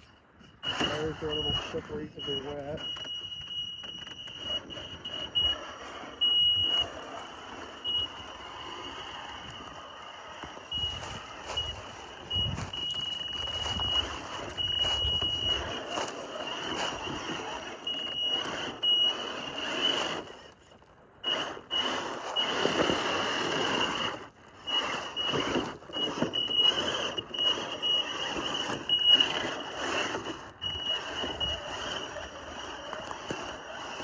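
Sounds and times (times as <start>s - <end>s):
tyre noise: 0.0s - 34.0s
electric motor whine: 0.6s - 20.7s, 21.3s - 34.0s.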